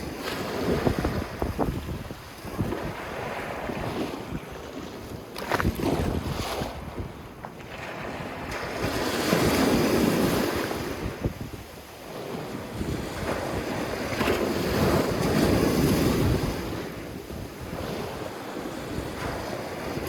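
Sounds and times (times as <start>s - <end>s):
sea waves washing on beach: 0.0s - 20.0s
wind rumbling on microphone: 0.0s - 20.0s.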